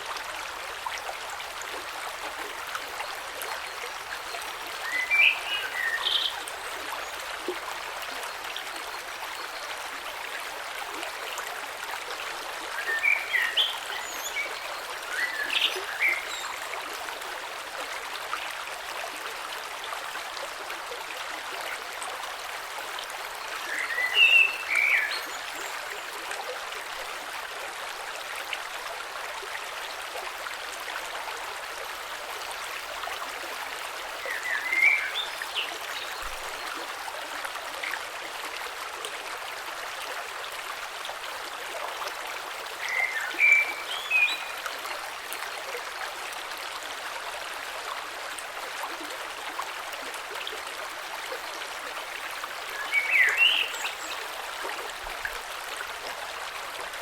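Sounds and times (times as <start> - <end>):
creek flowing over stones: 0.0 - 57.0.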